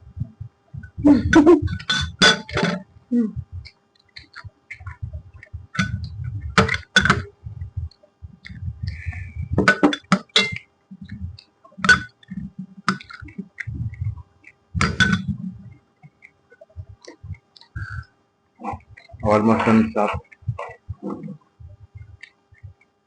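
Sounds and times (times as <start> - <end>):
muffled chewing: 3.4 - 22.9.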